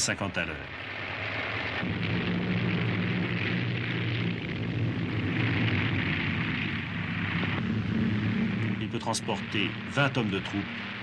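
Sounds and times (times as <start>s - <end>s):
aircraft engines droning: 0.1s - 11.0s.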